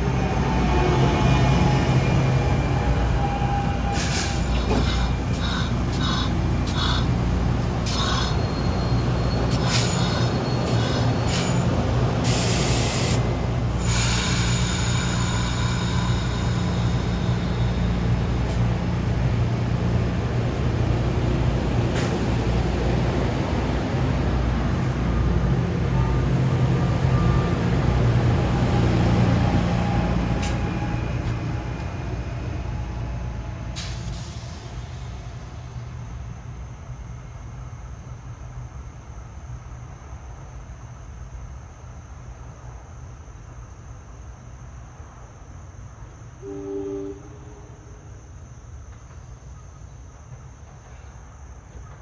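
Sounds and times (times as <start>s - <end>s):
train wheels rumbling on rail: 0.0s - 42.9s, 45.4s - 52.0s.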